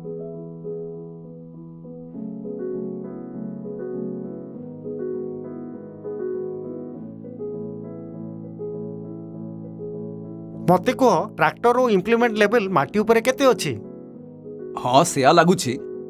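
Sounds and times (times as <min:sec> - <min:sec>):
background music melody over chords: 0:00.0 - 0:16.0.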